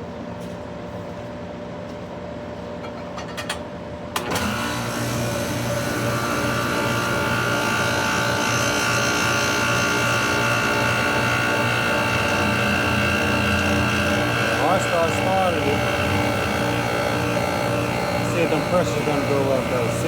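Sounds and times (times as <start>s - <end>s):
air conditioner condenser humming: 0.0s - 20.0s
compressor hum and whine: 0.0s - 20.0s.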